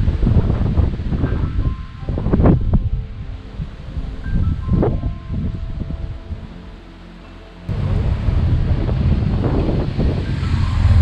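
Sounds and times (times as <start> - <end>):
wind buffeting microphone: 0.0 - 6.7, 7.7 - 11.0
background music: 0.0 - 11.0.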